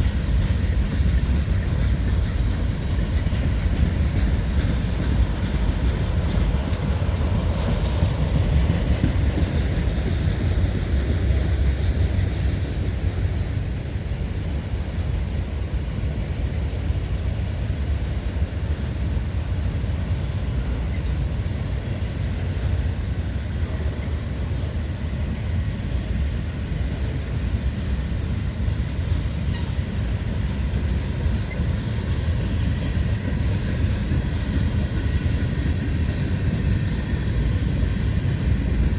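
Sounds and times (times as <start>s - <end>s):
freight train wheels rumbling on track: 0.0s - 38.9s.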